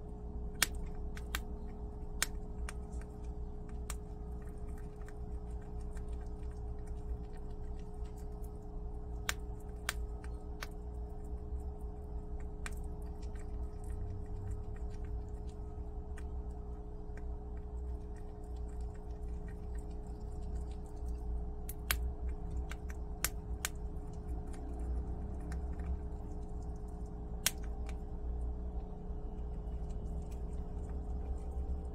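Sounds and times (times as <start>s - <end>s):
animal crunching beans: 0.0s - 31.9s
steady low hum: 0.0s - 31.9s.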